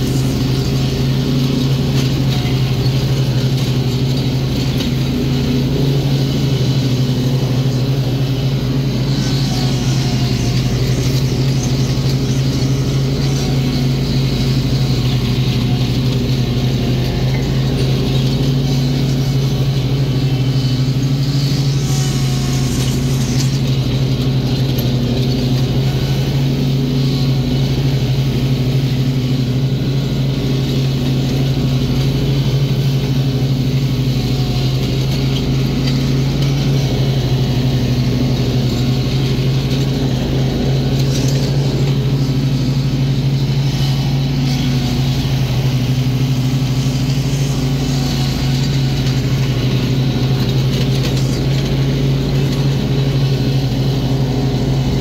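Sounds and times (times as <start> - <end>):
riding mower engine drone: 0.0 - 55.0.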